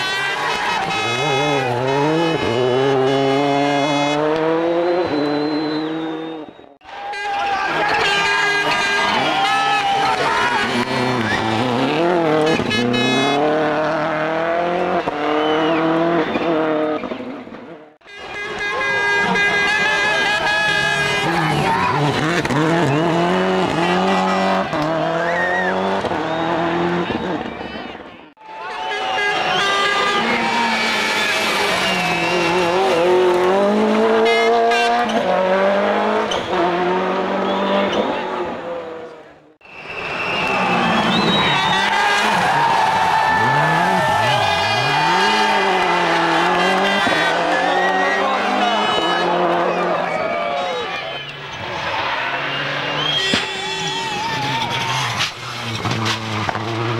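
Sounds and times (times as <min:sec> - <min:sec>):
rally car engine accelerating: 0:00.4 - 0:06.7, 0:07.7 - 0:18.0, 0:19.8 - 0:28.1, 0:29.4 - 0:39.4, 0:40.0 - 0:56.9.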